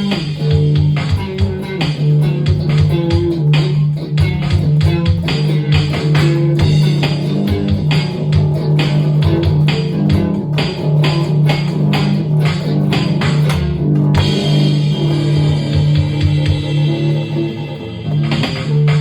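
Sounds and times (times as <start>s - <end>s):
bass guitar: 0.0s - 19.0s
guitar playing: 0.0s - 19.0s
steady beat of sharp strokes: 0.0s - 19.0s.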